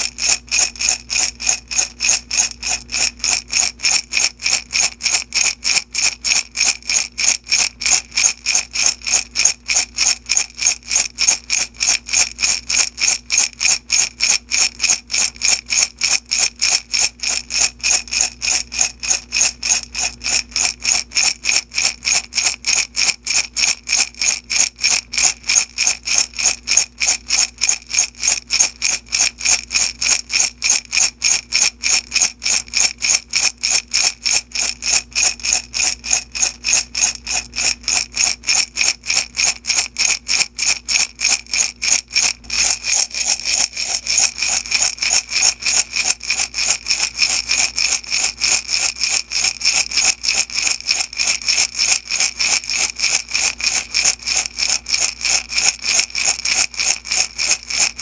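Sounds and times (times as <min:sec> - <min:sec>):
beads rattling in a glass jar: 0:00.0 - 0:58.0.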